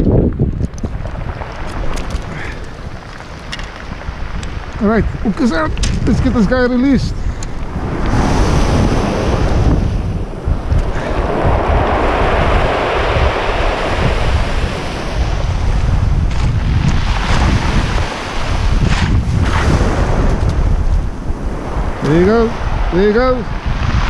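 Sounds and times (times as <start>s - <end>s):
wind rumbling on microphone: 0.0s - 24.0s
sea waves breaking on shore: 0.9s - 24.0s.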